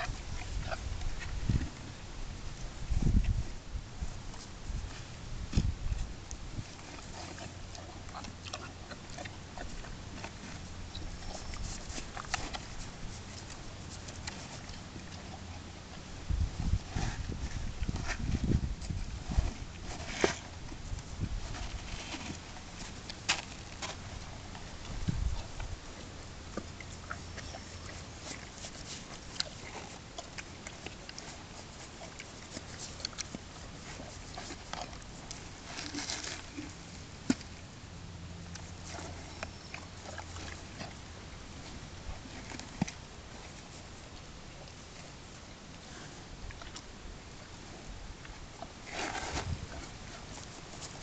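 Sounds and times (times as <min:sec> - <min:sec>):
horse crunching frozen food: 0:04.3 - 0:51.0.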